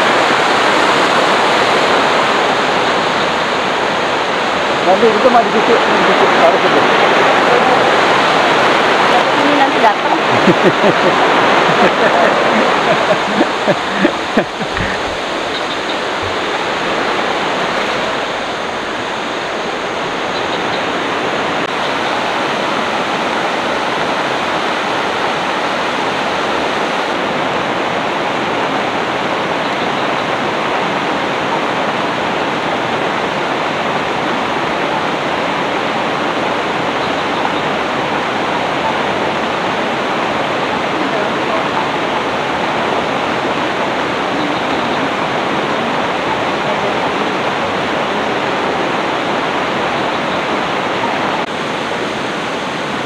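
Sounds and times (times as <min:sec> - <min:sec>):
river rushing: 0:00.0 - 0:53.0.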